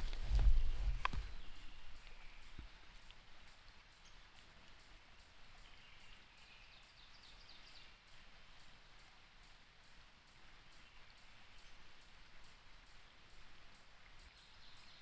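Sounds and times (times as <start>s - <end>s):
soft background hiss: 0.0s - 15.0s
songbirds chirping: 0.0s - 15.0s.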